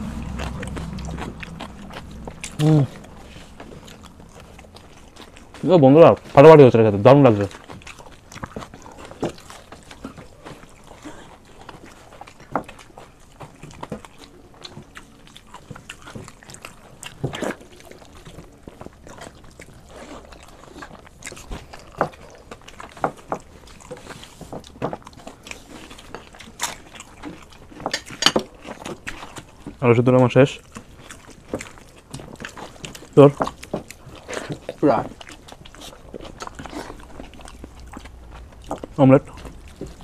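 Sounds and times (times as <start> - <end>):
people chewing and mouth smacking: 0.0 - 40.0.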